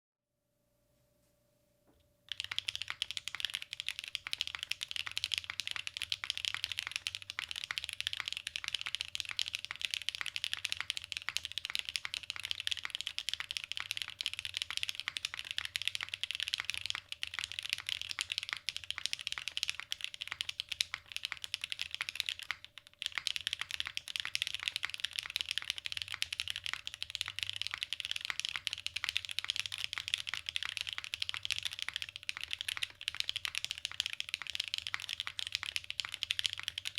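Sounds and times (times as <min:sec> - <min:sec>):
fast mechanical keyboard typing: 0:02.3 - 0:36.9.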